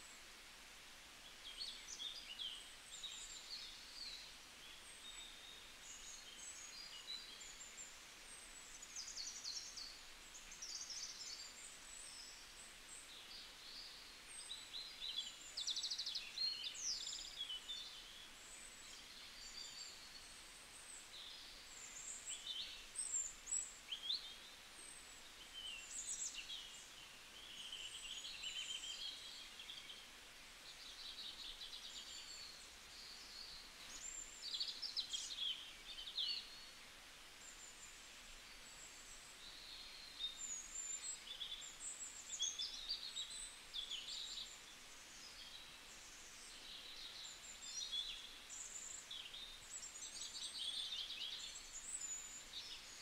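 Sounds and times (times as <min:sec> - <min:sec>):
small birds chirping and twittering: 0:00.0 - 0:53.0.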